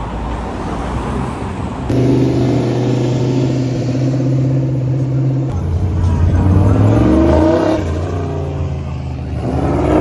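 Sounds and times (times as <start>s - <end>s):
mix of car engines: 0.0s - 10.0s
car engine running steadily: 1.9s - 10.0s.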